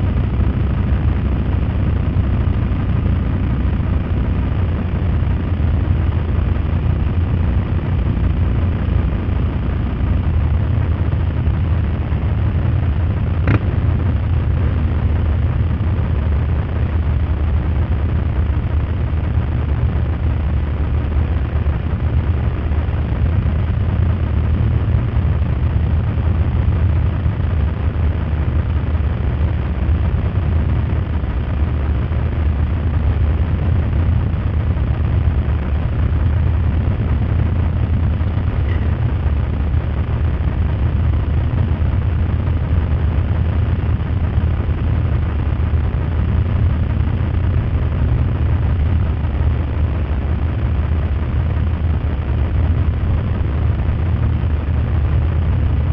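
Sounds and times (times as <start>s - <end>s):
motorcycles riding rumble: 0.0s - 55.9s
wind noise on microphone: 0.0s - 55.9s.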